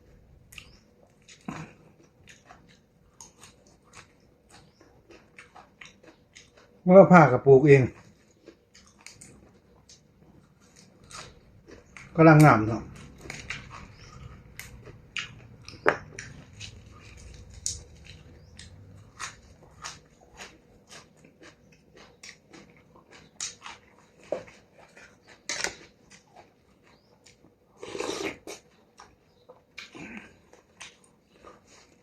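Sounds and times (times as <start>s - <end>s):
person chewing food: 0.1s - 6.9s, 7.8s - 32.0s.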